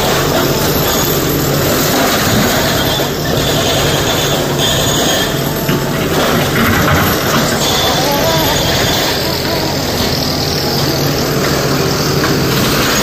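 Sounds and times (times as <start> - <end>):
excavator engine and hydraulics: 0.0 - 13.0
high squeals: 0.3 - 13.0.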